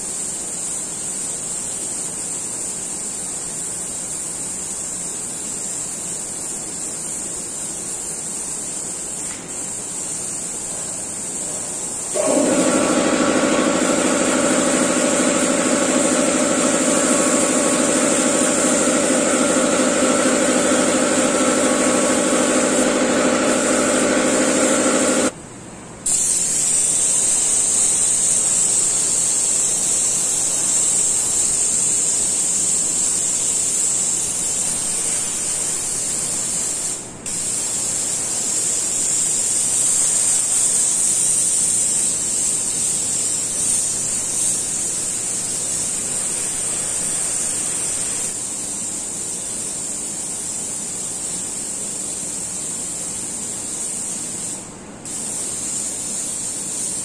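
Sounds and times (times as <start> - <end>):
airbrush hiss: 0.0 - 25.4, 26.0 - 57.0.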